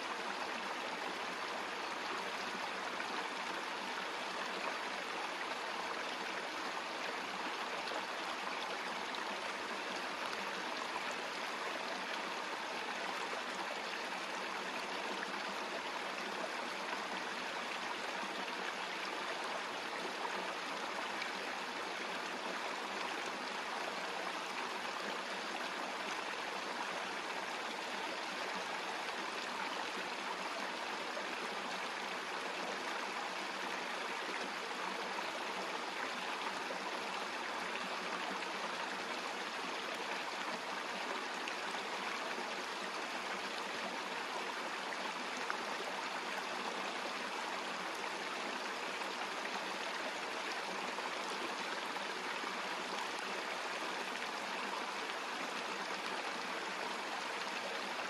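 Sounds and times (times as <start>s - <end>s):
babbling brook: 0.0s - 58.0s.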